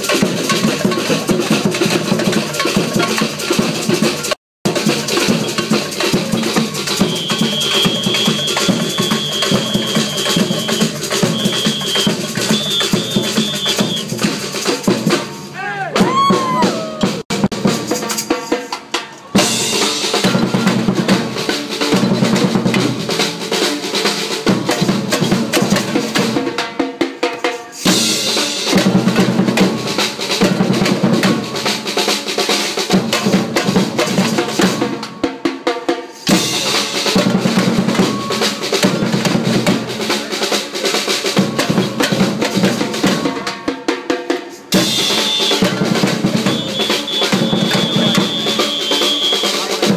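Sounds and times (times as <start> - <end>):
drum kit playing fast beat: 0.0 - 49.9.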